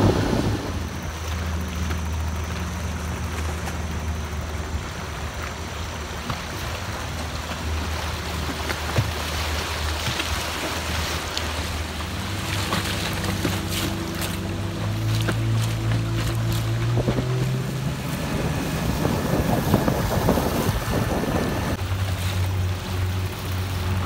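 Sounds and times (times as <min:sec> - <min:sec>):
outboard engine humming: 0:00.0 - 0:24.0.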